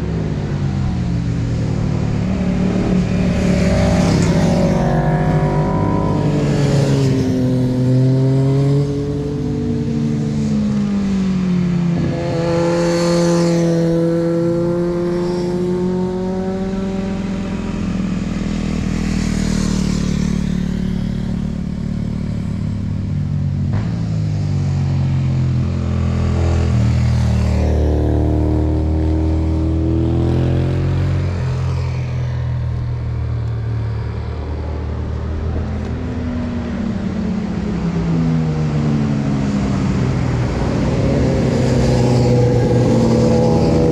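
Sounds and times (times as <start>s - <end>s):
motorcycles passing revving: 0.0s - 43.9s.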